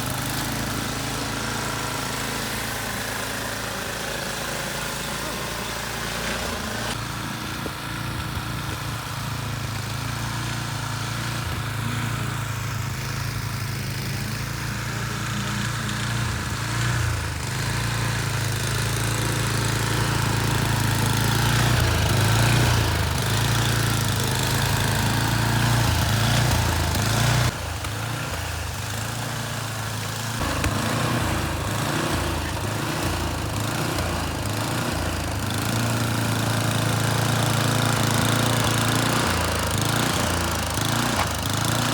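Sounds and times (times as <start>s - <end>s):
snowblower engine running: 0.0s - 41.9s.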